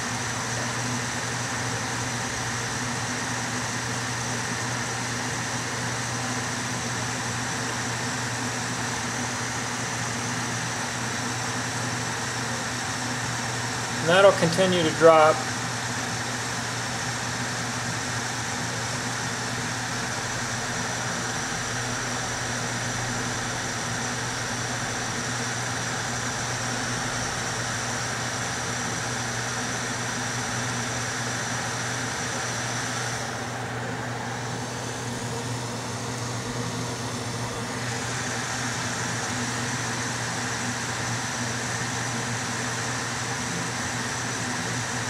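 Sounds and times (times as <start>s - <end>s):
electric air blower running: 0.0s - 45.0s.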